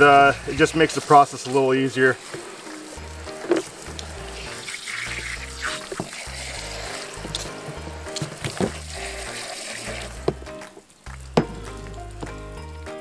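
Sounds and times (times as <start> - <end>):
hose water spraying on meat: 0.0 - 12.2.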